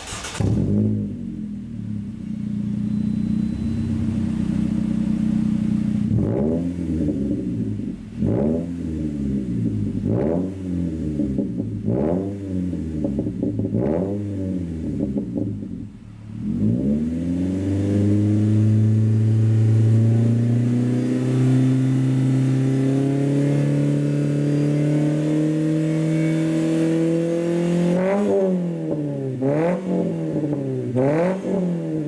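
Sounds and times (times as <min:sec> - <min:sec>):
car engine revving loudly: 0:00.0 - 0:01.6, 0:04.1 - 0:32.0.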